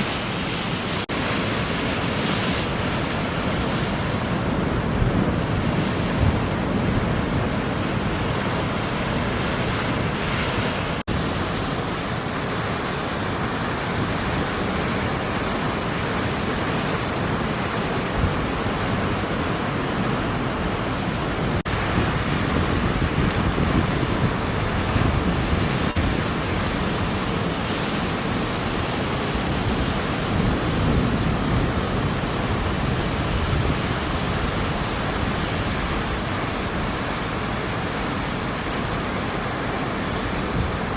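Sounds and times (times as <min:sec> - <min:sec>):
ocean surf washing: 0:00.0 - 0:40.9
wind noise on microphone: 0:02.1 - 0:40.9.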